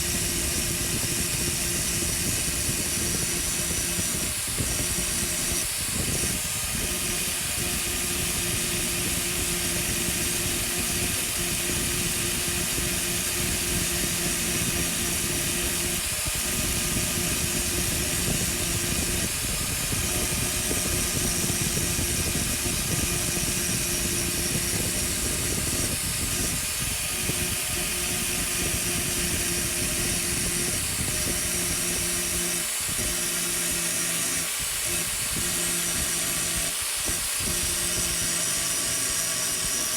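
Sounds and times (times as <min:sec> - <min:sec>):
grinder motor hum: 0:00.0 - 0:39.9.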